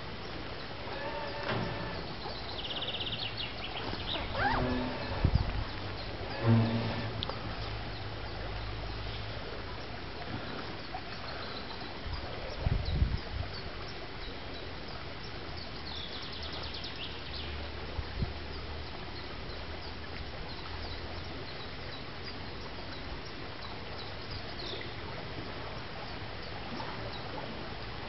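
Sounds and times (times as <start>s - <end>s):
faint low engine hum: 0.0s - 28.0s
songbirds chirping: 0.0s - 28.0s.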